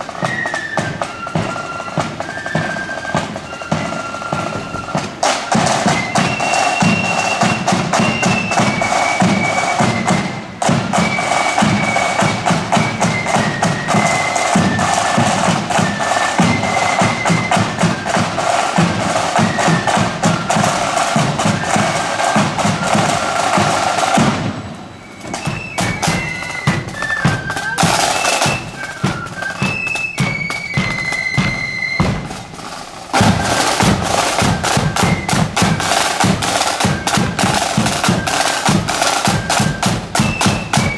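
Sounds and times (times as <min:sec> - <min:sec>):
rapid snare drumming: 0:00.0 - 0:24.5, 0:25.2 - 0:40.9
marching band playing: 0:00.0 - 0:40.9.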